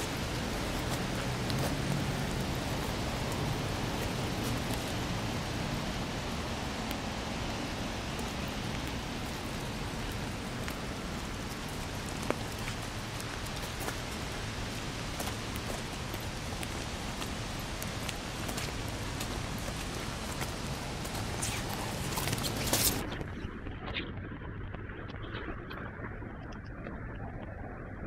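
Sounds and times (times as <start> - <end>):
drops ticking nearby: 0.0 - 23.2
steady rain hiss: 0.0 - 23.2.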